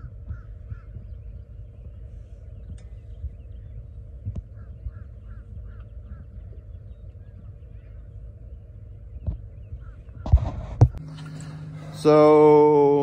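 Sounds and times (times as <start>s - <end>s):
steady low rumble: 0.0s - 10.2s, 10.9s - 13.0s
distant bird calling: 0.0s - 13.0s.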